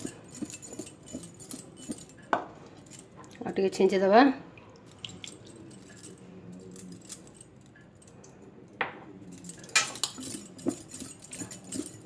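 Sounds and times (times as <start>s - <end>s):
bowl and utensil clinking: 0.0s - 3.6s, 4.8s - 8.2s, 8.8s - 12.0s.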